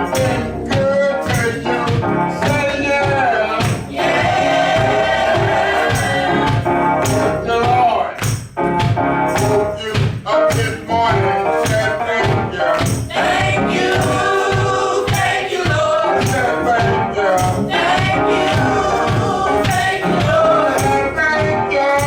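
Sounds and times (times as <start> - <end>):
church praise music with singing: 0.0 - 22.0.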